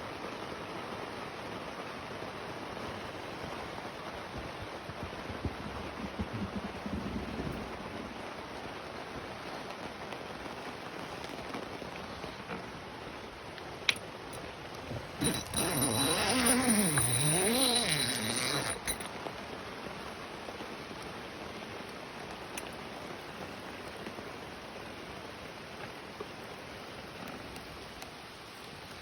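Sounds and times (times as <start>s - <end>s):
steady rain falling: 0.0s - 15.2s, 16.8s - 29.0s.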